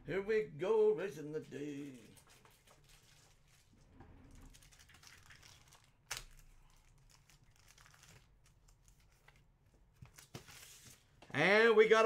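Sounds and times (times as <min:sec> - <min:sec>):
rustling of cards and plastic sleeves: 0:01.6 - 0:11.9.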